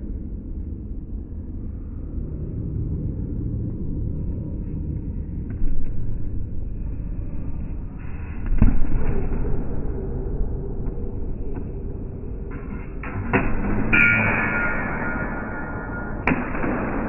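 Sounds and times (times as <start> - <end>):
muffled sports hall rumble: 0.0 - 17.0.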